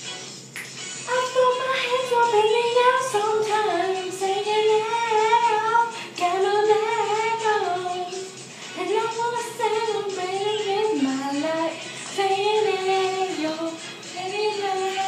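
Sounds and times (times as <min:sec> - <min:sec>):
girl singing unaccompanied: 0:01.1 - 0:15.0.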